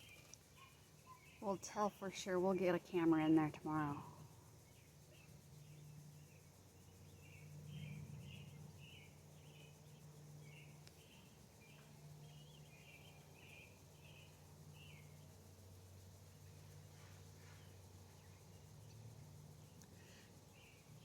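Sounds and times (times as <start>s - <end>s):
small bird chirping: 0.0s - 1.7s, 4.0s - 21.0s
low steady hum: 0.0s - 21.0s.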